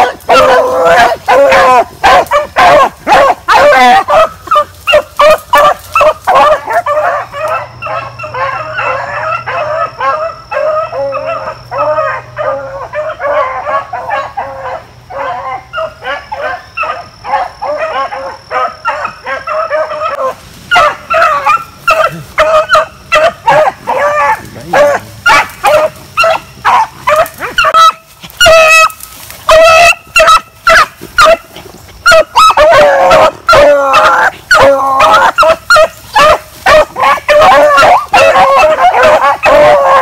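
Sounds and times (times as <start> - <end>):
hounds baying: 0.0 - 40.0.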